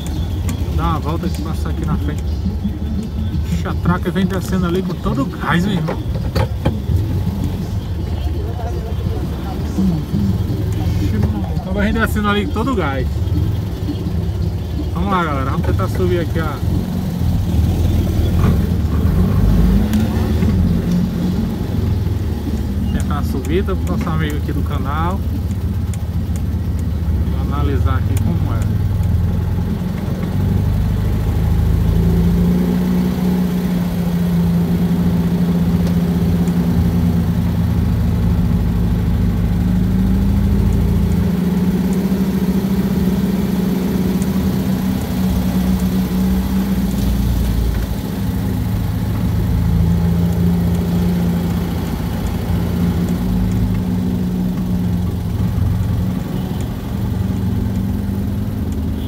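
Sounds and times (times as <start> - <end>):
dune buggy engine running: 0.0 - 59.0.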